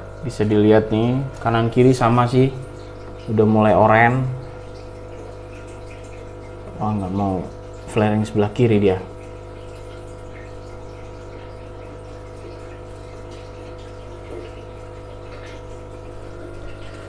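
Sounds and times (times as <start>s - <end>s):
aquarium pump humming: 0.0s - 17.0s
faint moving water: 0.0s - 17.0s.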